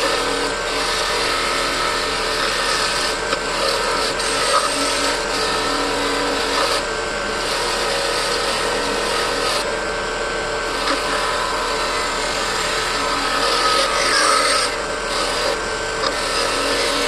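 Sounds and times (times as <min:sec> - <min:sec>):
power tool grinding metal: 0:00.0 - 0:17.0.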